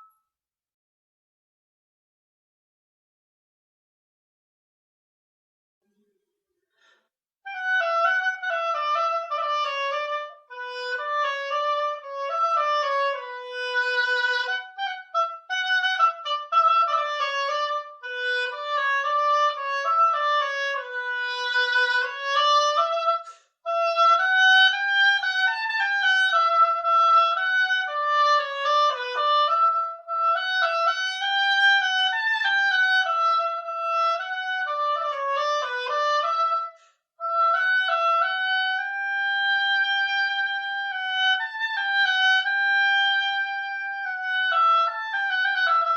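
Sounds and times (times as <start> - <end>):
instrumental melody in two voices: 7.5 - 45.9.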